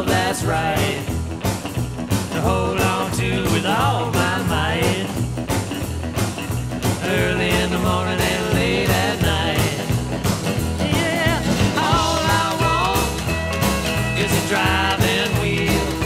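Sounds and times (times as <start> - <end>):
country-rock instrumental music: 0.0 - 16.0.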